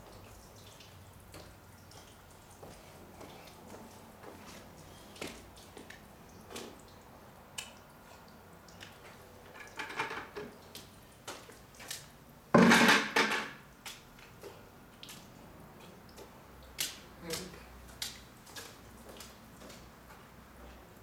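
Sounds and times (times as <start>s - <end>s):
water dripping: 0.0s - 12.2s, 13.6s - 20.3s.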